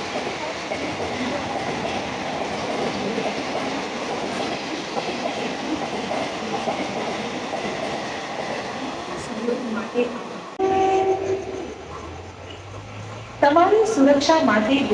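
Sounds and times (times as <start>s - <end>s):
train wheels on rails: 0.0s - 14.9s.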